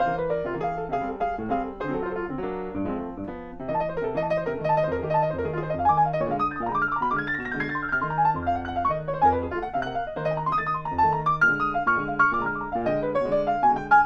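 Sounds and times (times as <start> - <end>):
grand piano playing: 0.0 - 14.0.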